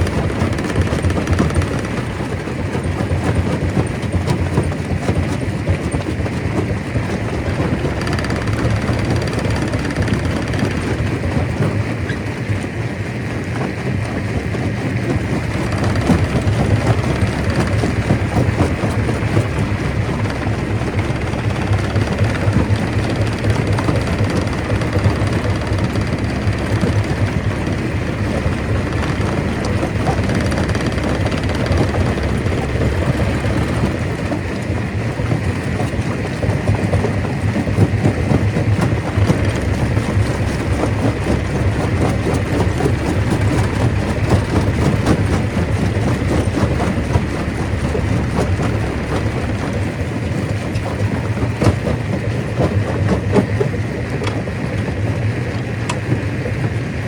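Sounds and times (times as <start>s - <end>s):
heavy machine hum: 0.0s - 57.0s.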